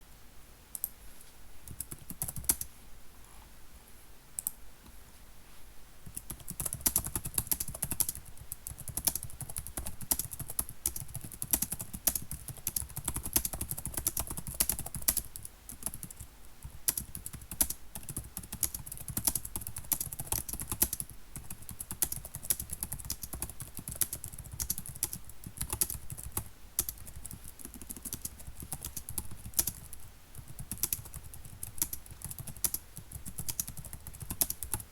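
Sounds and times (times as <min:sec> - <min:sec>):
computer keyboard typing: 0:01.7 - 0:02.7, 0:06.1 - 0:34.9.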